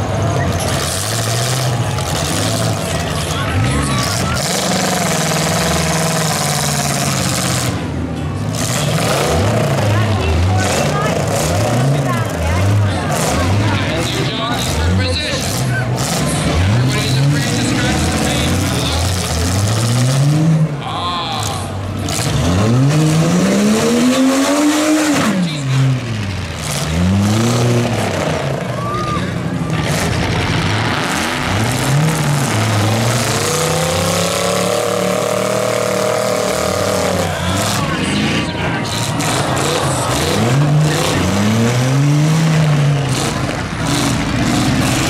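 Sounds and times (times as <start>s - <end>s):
din of other engines: 0.0s - 45.0s
truck engine revving: 0.0s - 45.0s.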